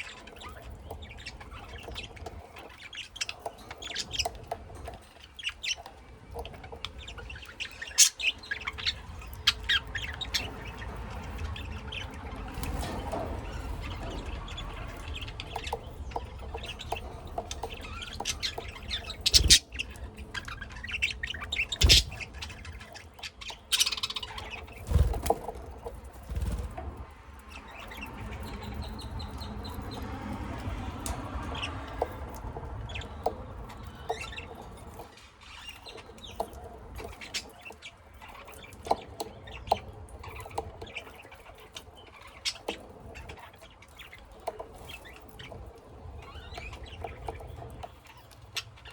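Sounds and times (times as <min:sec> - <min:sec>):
caged birds chirping and squawking: 0:00.0 - 0:48.9.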